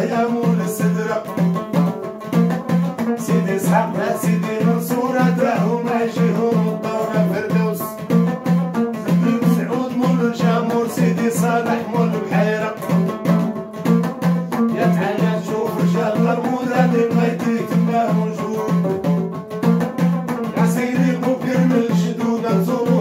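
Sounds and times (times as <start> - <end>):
man singing: 0.0 - 8.2, 8.9 - 13.8, 14.4 - 19.4, 20.4 - 23.0
plucked lute: 0.0 - 23.0.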